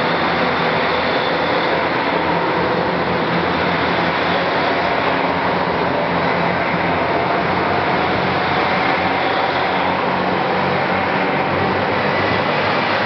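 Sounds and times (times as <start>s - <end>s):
diesel train engine under load: 0.0s - 13.0s
train wheel noise: 0.0s - 13.0s.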